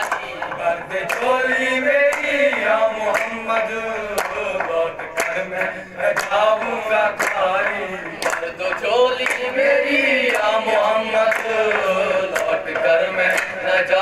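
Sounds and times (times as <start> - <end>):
hand claps: 0.0 - 14.0
men singing: 0.0 - 14.0.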